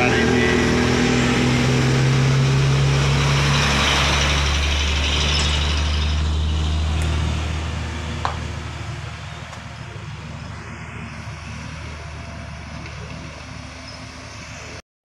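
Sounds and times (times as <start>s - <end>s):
diesel truck driving past: 0.0s - 14.8s.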